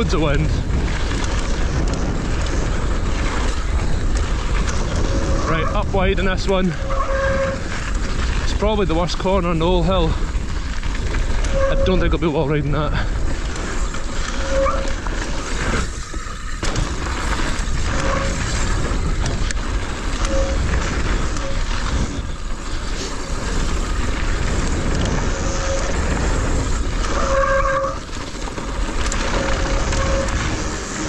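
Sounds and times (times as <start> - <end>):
bike tyres rolling over gravel: 0.0 - 31.0
wind on camera microphone: 0.0 - 31.0.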